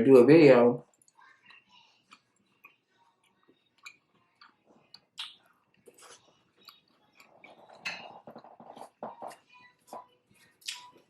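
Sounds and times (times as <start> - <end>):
chewing food: 0.8 - 11.0.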